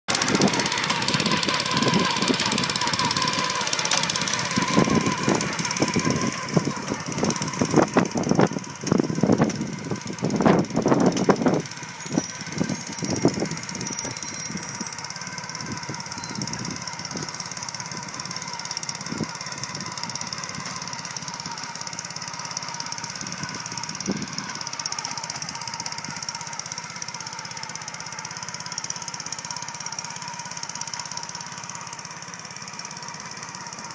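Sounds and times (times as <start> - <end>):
lawn aerator engine chugging: 0.1 - 33.9.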